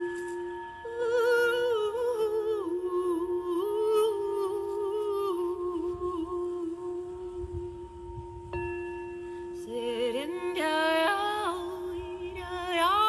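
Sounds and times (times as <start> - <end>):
person humming a melody: 0.0 - 13.0
singing bowl ringing: 0.0 - 13.0.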